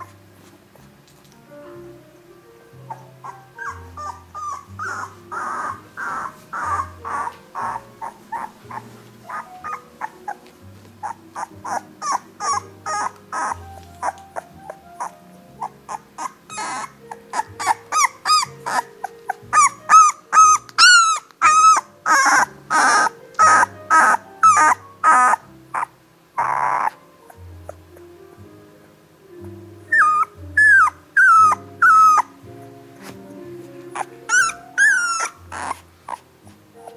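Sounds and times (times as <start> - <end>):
background music: 0.0 - 36.9
puppies whimpering and squeaking: 2.8 - 28.1, 29.8 - 32.4, 33.0 - 36.9.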